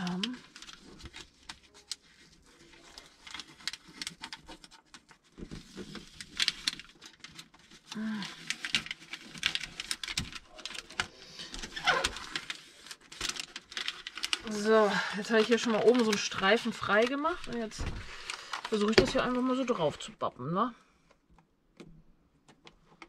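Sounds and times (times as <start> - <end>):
backing paper peeling crackles: 0.0 - 20.2.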